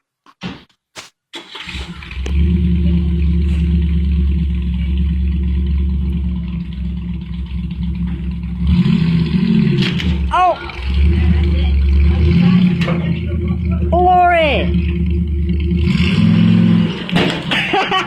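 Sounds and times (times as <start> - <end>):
heavy machine engine running: 1.6 - 18.0.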